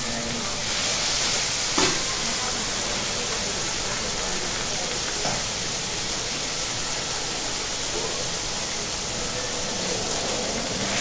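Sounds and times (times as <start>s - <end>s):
cabbage sizzling on a griddle: 0.0s - 11.0s.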